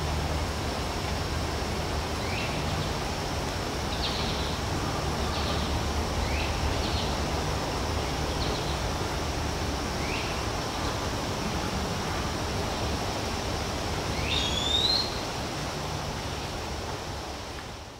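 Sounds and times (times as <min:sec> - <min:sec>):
steady hiss: 0:00.0 - 0:17.9.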